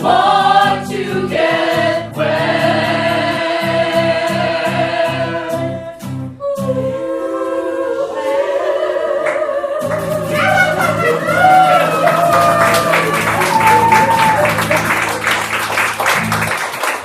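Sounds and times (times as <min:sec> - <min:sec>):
voices singing held notes: 0:00.0 - 0:15.5.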